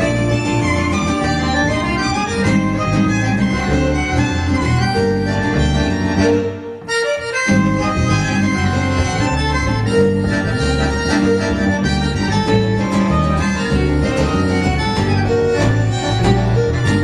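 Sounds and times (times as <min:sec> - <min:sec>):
accordion: 0:00.0 - 0:17.0
folk band playing: 0:00.0 - 0:17.0.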